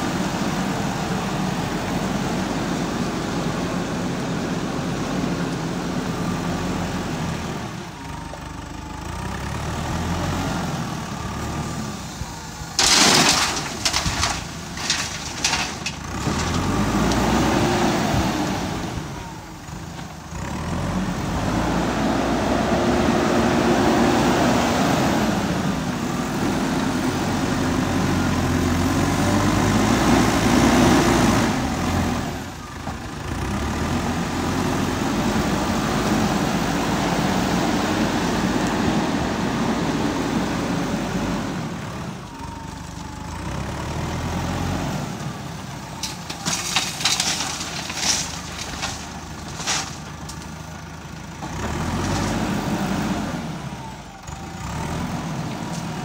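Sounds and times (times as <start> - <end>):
diesel engine running hard: 0.0 - 56.0.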